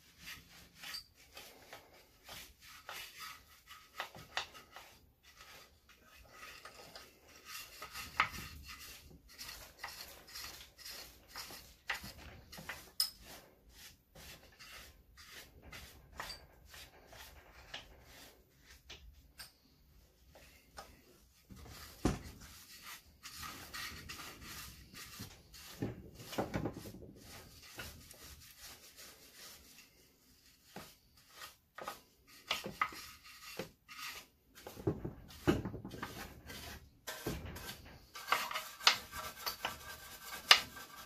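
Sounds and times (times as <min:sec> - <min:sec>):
plastic brush scrubbing grime: 0:00.0 - 0:19.3, 0:20.2 - 0:41.0.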